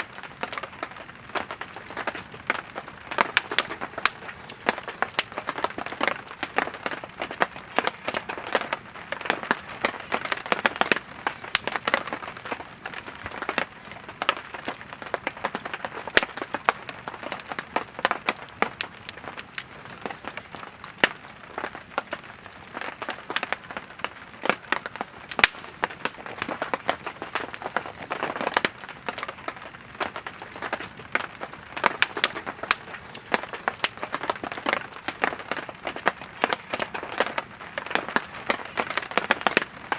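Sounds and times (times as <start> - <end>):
campfire crackling and popping: 0.0 - 39.9
soft hiss of flames: 0.0 - 39.9.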